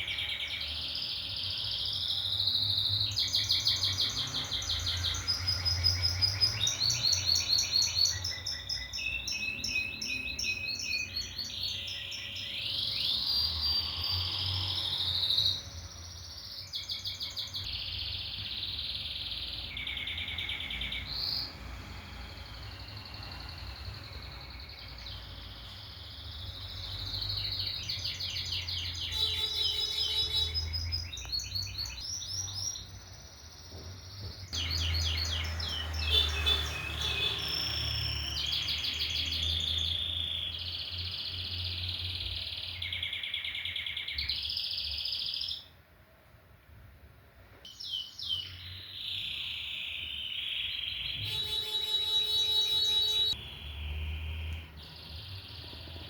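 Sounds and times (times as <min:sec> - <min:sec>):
canary singing trills: 0:00.0 - 0:45.7, 0:47.7 - 0:56.0.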